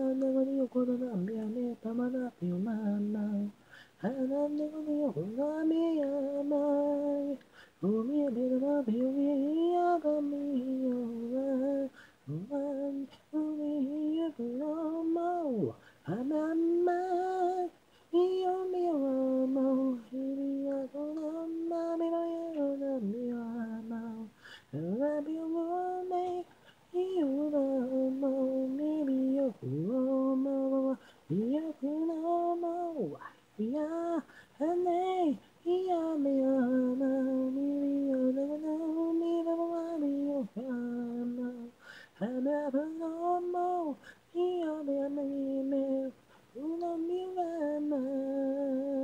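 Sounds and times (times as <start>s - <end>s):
man singing a cappella: 0.0s - 49.0s.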